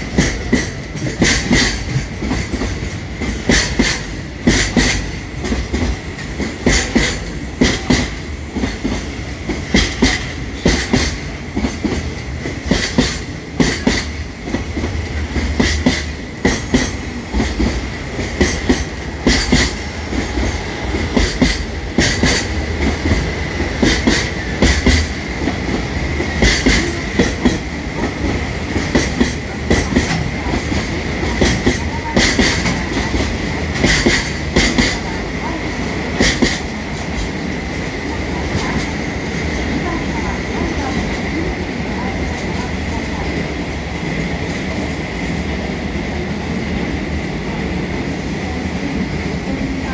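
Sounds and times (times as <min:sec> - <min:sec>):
train rolling rumble: 0:00.0 - 0:49.9
train wheels clattering on rails: 0:00.0 - 0:49.9.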